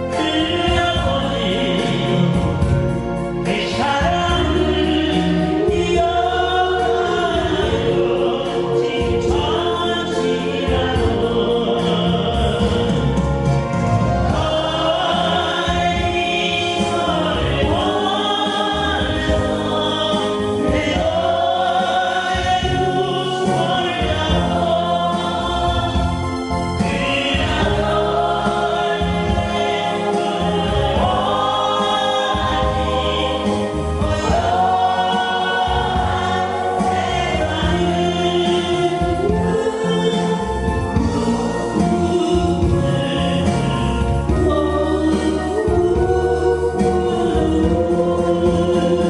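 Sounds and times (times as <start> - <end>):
group of voices singing: 0.0 - 49.0
instrumental backing track: 0.0 - 49.0.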